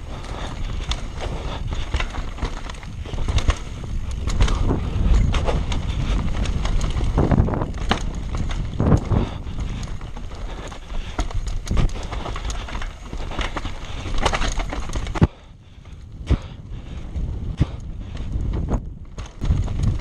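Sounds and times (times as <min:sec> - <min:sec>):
bike knocking and rattling: 0:00.0 - 0:20.0
rumble of bike tyres on dirt: 0:00.0 - 0:20.0
wind on microphone: 0:00.0 - 0:20.0.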